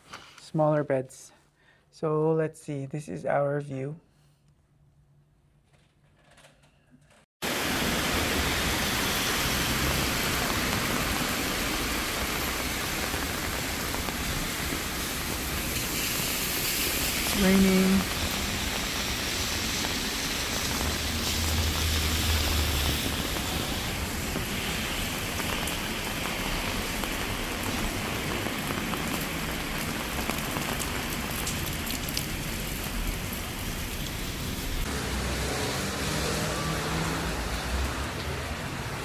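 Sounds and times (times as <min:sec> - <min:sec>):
steady rain falling: 0:07.4 - 0:39.0.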